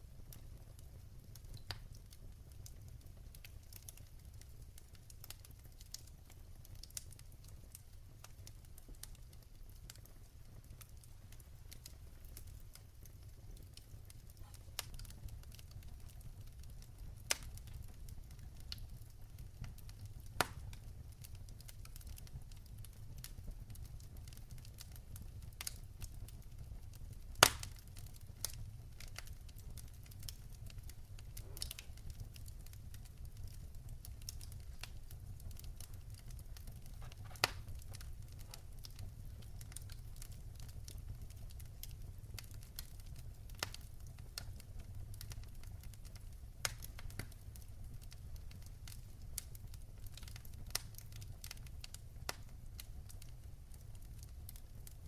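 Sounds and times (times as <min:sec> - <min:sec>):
low fire rumble: 0:00.0 - 0:55.0
fire pops and snaps: 0:00.3 - 0:55.0.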